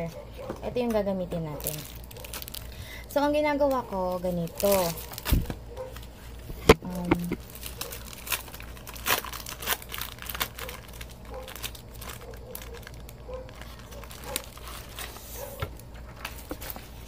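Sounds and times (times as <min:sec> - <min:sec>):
plastic film crinkling: 0:00.9 - 0:02.8, 0:03.6 - 0:06.5, 0:07.1 - 0:17.0.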